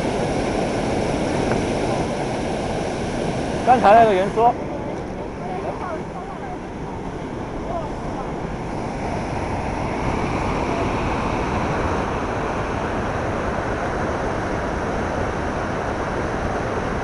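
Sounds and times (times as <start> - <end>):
water rushing over a dam: 0.0 - 17.0.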